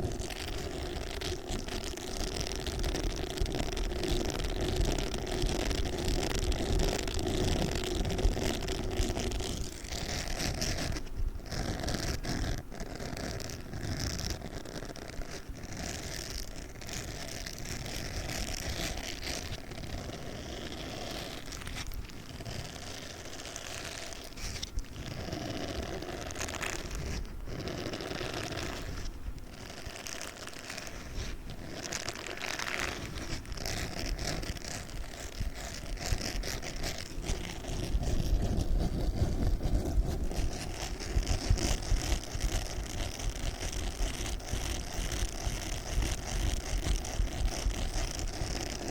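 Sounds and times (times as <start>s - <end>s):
sponge scratching and squishing: 0.0s - 48.9s.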